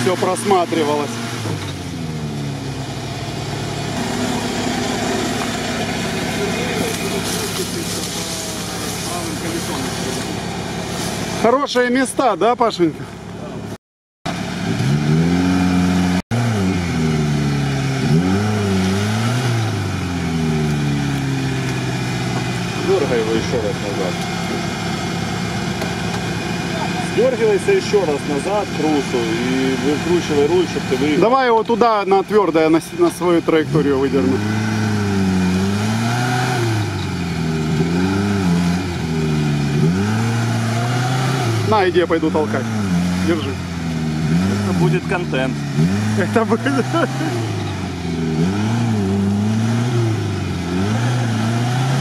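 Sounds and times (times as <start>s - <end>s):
car engine straining and revving: 0.0s - 52.0s.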